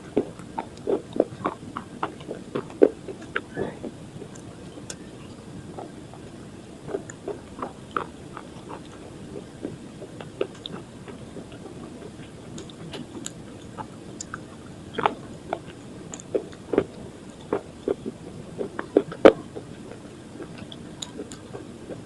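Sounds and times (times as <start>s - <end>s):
pencil being chewed with crunches: 0.1s - 3.5s, 6.9s - 22.0s.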